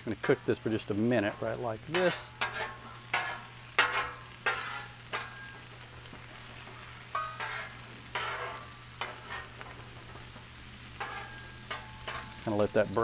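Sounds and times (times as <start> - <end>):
food sizzling on griddle: 0.0 - 13.0
metal spatulas scraping griddle: 1.3 - 12.4.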